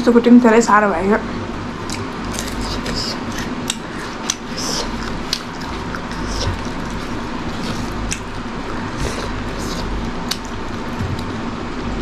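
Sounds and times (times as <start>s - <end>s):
steady low hum: 0.0s - 12.0s
chewing crunchy food: 1.8s - 11.5s.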